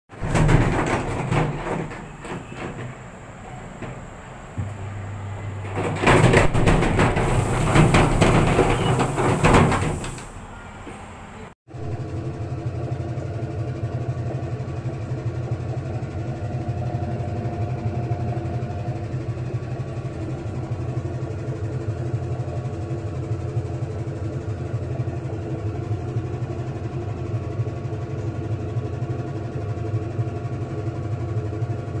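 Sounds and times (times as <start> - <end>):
washing machine motor hum: 0.1 - 32.0.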